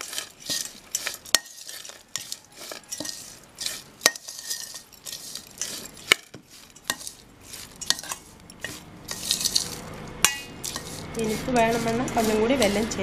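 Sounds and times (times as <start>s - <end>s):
clinks against a metal bowl: 0.0s - 13.0s
mixing by hand in a bowl: 0.0s - 13.0s.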